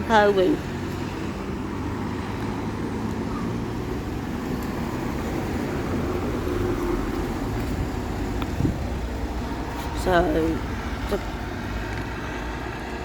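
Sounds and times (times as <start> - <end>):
diesel bus engine hum: 0.0 - 13.0
traffic noise: 0.0 - 13.0.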